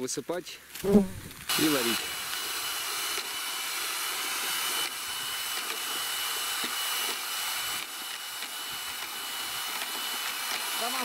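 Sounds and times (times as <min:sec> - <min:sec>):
electric drill motor whine: 0:01.1 - 0:11.0.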